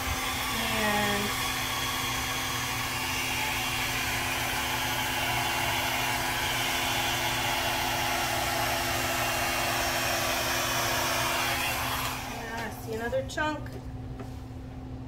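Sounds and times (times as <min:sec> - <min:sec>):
hair dryer running: 0:00.0 - 0:13.6.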